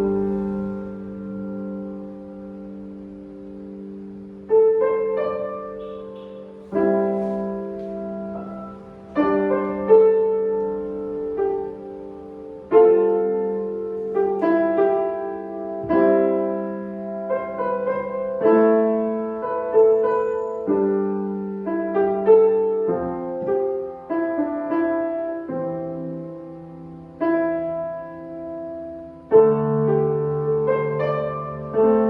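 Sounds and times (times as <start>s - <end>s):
solo piano playing: 0.0s - 32.0s.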